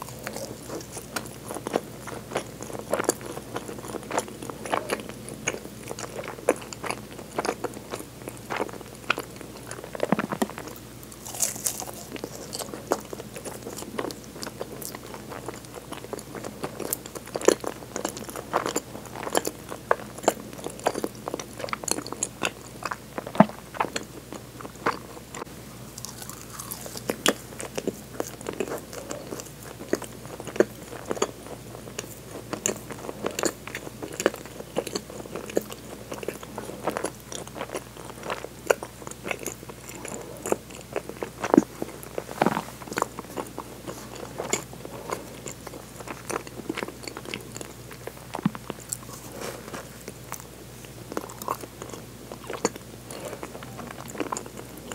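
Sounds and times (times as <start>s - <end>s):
person chewing bakery food: 0.0s - 54.9s.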